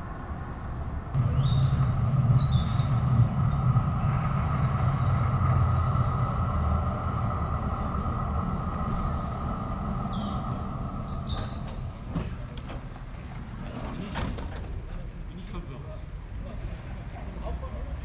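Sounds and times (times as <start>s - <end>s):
tram rumbling and whining: 0.0s - 18.0s.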